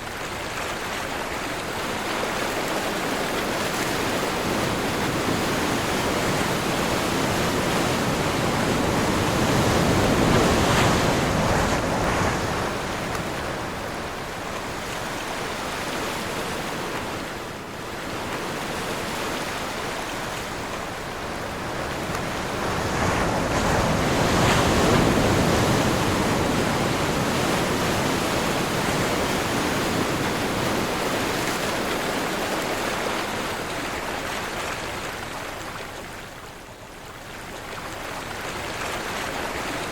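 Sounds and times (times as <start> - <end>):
ocean waves breaking: 0.0 - 39.9
wind: 0.0 - 39.9.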